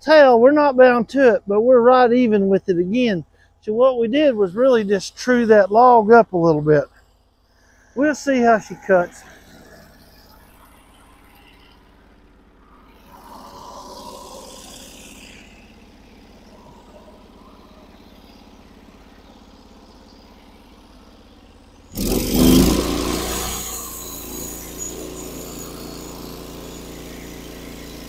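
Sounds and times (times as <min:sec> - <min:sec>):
sawmill engine running: 0:00.0 - 0:07.0, 0:07.6 - 0:28.0.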